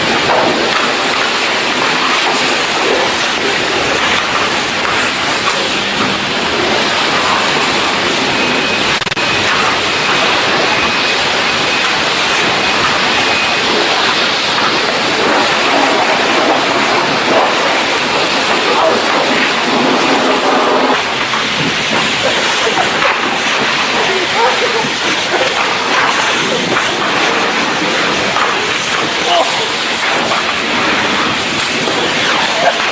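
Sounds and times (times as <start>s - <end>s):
car wash water jets spraying: 0.0s - 32.9s
faint high whine: 0.6s - 32.8s.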